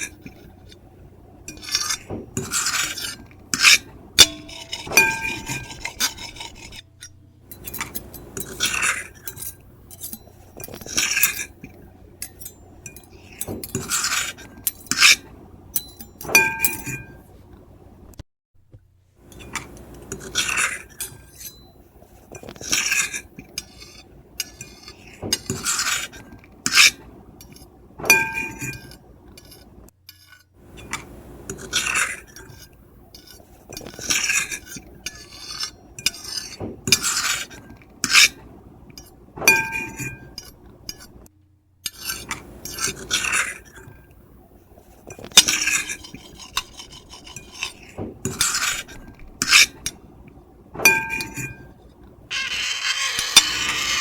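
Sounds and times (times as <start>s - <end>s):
cutlery scraping on a plate: 1.5s - 17.2s, 19.3s - 38.4s, 39.4s - 41.2s, 41.9s - 44.1s, 45.0s - 50.0s, 50.8s - 51.7s, 52.3s - 54.0s.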